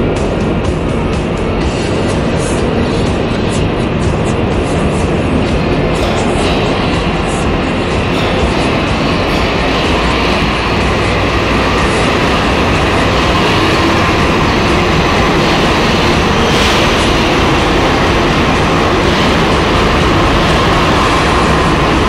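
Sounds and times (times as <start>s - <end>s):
metro train rail noise: 0.0s - 22.0s.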